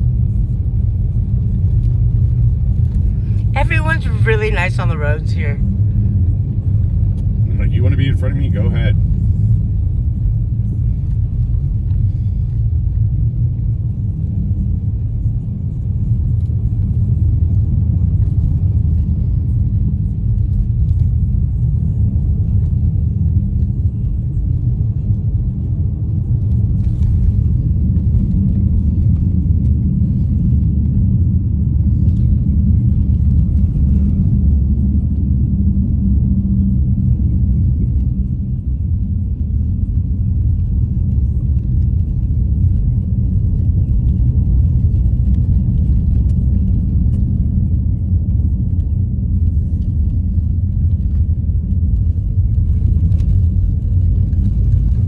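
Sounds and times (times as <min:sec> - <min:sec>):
road and tyre rumble in car: 0:00.0 - 0:55.0.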